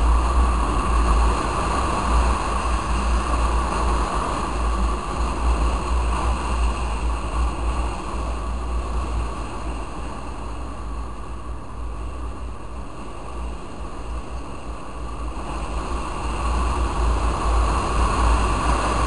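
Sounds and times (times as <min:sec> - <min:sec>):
motorcycle engine and road noise: 0:00.0 - 0:19.0
wind buffeting microphone: 0:00.0 - 0:19.0.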